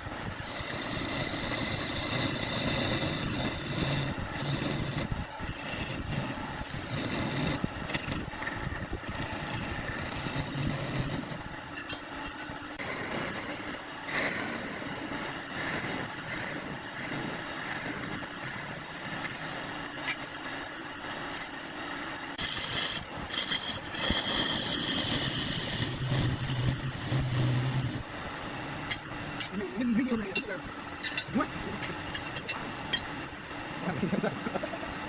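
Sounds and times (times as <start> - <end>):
wood lathe running: 0.0 - 11.6, 12.7 - 19.8, 22.2 - 34.8
low hum: 0.0 - 35.0.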